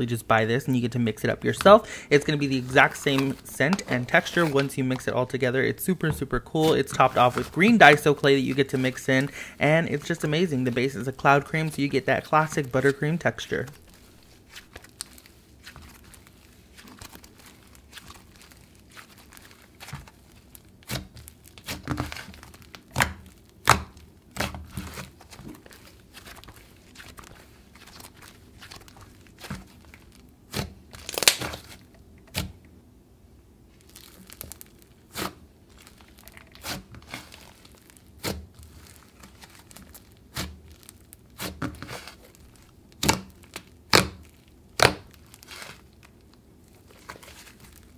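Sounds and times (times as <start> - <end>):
slime tearing and crinkling: 1.0 - 32.5, 33.7 - 47.9.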